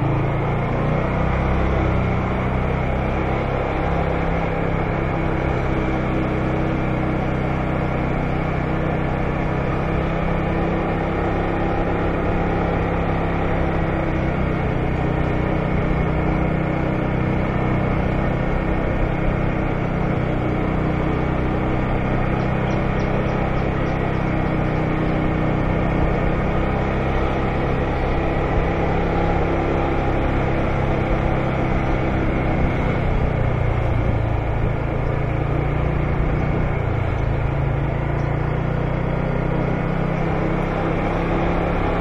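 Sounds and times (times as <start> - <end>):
scooter engine humming: 0.0 - 42.0.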